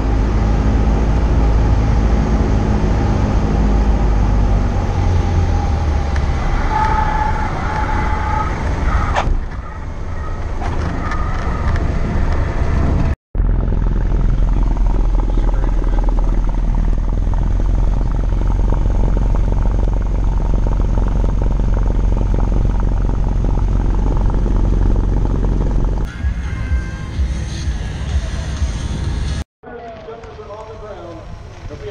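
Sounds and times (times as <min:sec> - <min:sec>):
airplane engine and propeller: 0:00.0 - 0:31.9.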